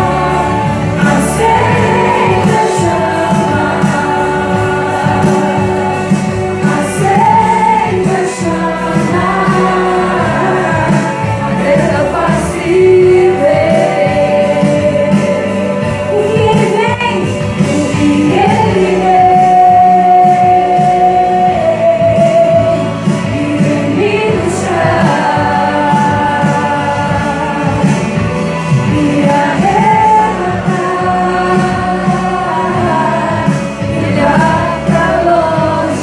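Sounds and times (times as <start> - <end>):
backing music: 0.0 - 36.0
woman singing into a microphone: 0.0 - 36.0.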